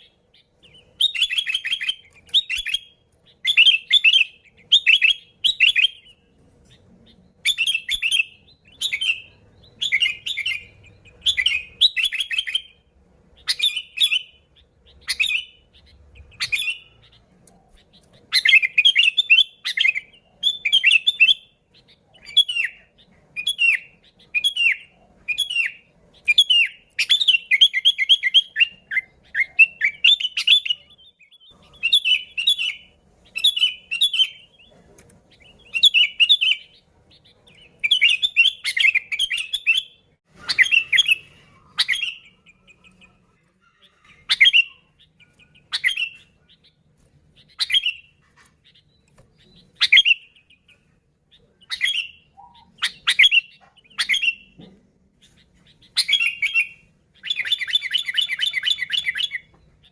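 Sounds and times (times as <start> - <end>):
bird singing whistled phrases: 0.0 - 12.8, 13.4 - 17.2, 17.8 - 34.7, 35.4 - 43.2, 43.9 - 46.8, 47.4 - 48.1, 48.8 - 54.6, 55.8 - 59.9.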